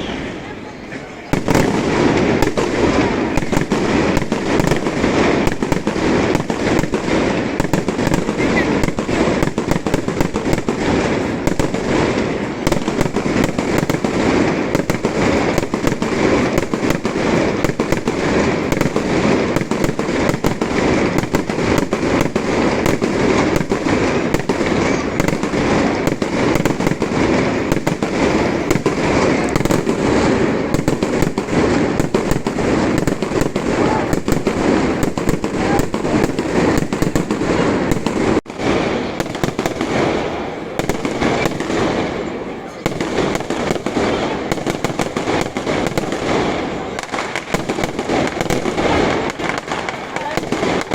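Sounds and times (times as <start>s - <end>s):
fireworks banging rapidly: 0.0s - 50.9s.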